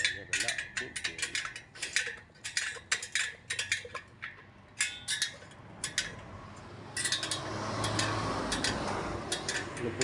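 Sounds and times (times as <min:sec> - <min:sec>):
metallic tool clicks: 0:00.0 - 0:10.0.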